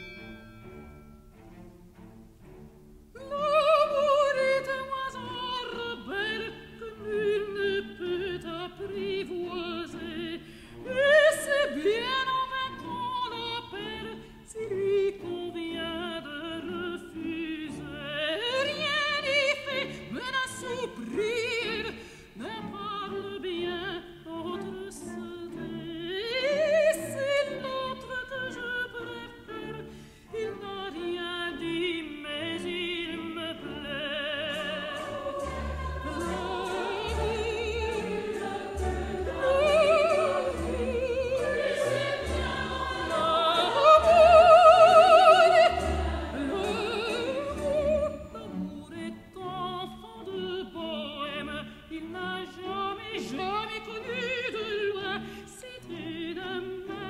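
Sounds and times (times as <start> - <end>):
low musical accompaniment: 0.0 - 57.0.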